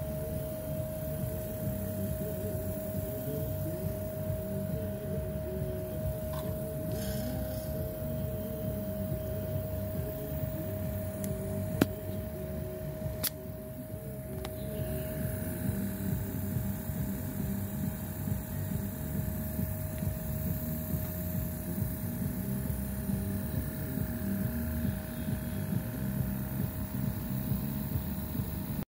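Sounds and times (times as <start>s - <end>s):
motor humming with whine: 0.0s - 28.9s.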